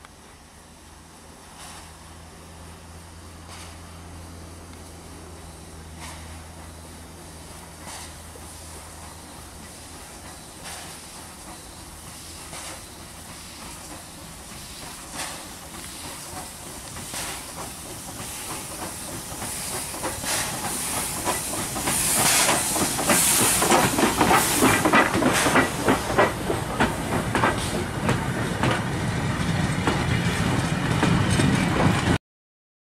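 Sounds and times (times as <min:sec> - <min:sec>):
steam locomotive chuffing: 0:00.7 - 0:32.2.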